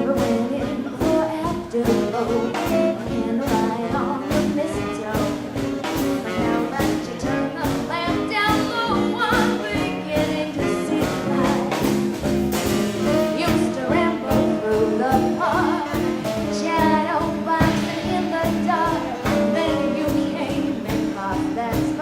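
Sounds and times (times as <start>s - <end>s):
swing band horns over a beat: 0.0s - 22.0s.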